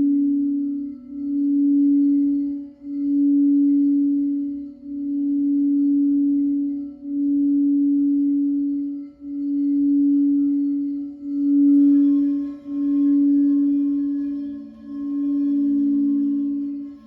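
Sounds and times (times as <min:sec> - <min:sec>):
higher ringing bowl tone: 0:00.0 - 0:17.0
low singing bowl tone: 0:00.0 - 0:17.0
lower singing bowl tone: 0:00.0 - 0:17.0.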